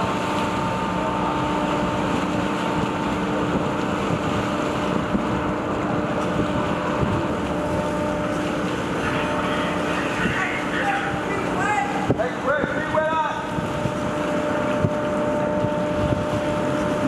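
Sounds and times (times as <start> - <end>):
outboard motors idling: 0.0 - 17.0
ship machinery rumble: 0.0 - 17.0.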